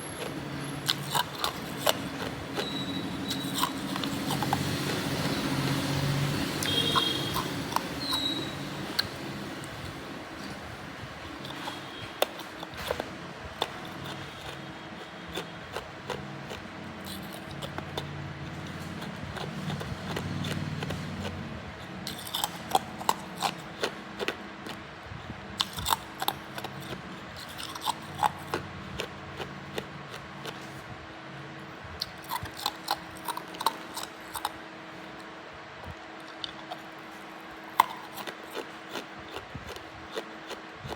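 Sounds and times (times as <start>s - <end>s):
ice crunching in mouth: 0.0s - 9.8s, 11.3s - 24.8s, 25.6s - 30.8s, 32.0s - 34.6s, 37.7s - 40.9s.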